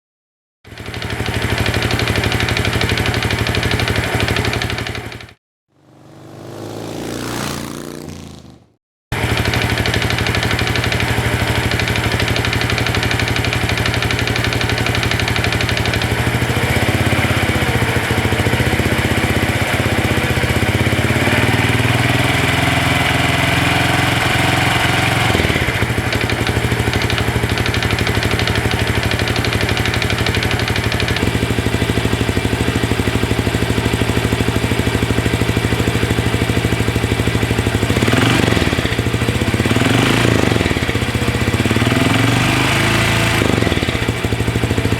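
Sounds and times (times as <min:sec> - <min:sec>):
motorcycle engine idling: 0:00.7 - 0:08.4, 0:09.1 - 0:44.9.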